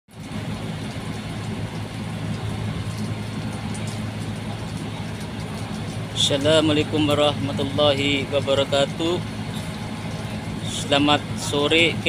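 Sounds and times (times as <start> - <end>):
heavy engines humming: 0.1 - 12.0.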